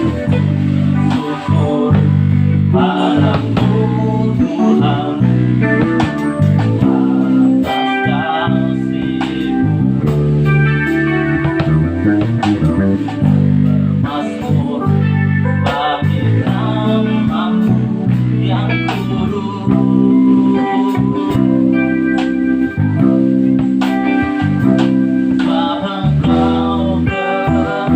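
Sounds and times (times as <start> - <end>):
bass guitar: 0.0 - 27.9
drums: 0.0 - 27.9
guitar: 0.0 - 27.9
keyboard: 0.0 - 27.9.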